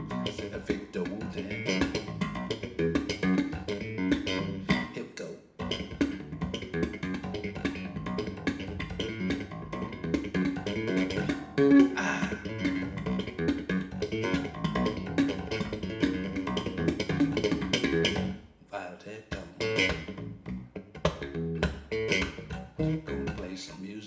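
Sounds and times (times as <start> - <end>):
jazz fusion music: 0.0 - 4.9, 5.6 - 18.4, 19.4 - 23.6.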